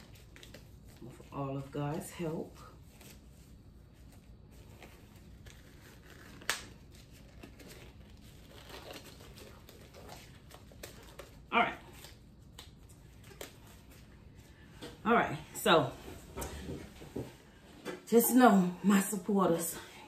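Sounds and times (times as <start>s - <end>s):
disposable gloves rustling: 0.0s - 18.0s.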